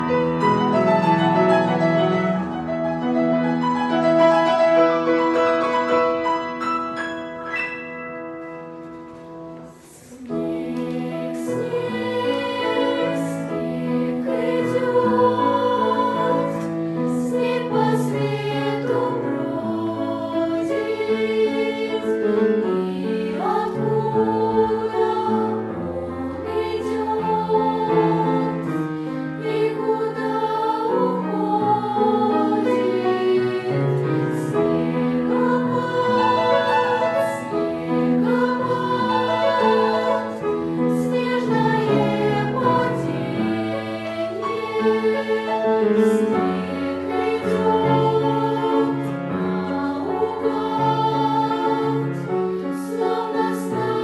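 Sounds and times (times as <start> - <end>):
choir singing: 9.6 - 54.0.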